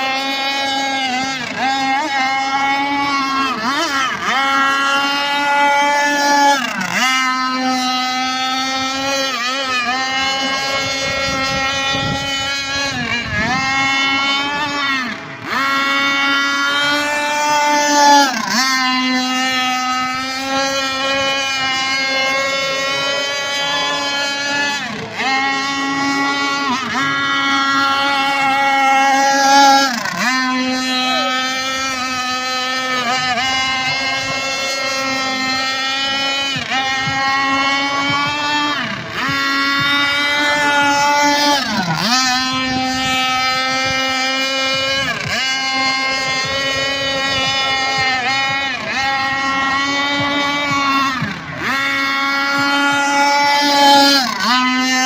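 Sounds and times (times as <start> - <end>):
model speedboat engine revving: 0.0 - 55.0.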